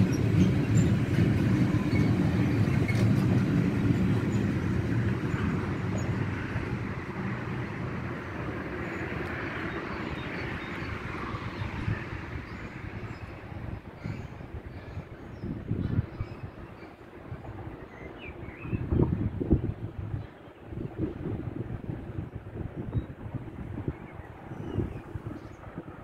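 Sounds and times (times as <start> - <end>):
freight wagons rumbling on rails: 0.0 - 26.0.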